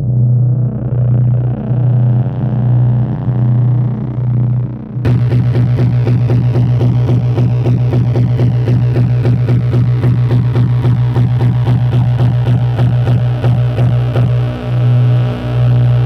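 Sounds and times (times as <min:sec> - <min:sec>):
pulsing plucky synth notes: 0:00.0 - 0:16.0
synthesizer low drone: 0:00.0 - 0:16.0.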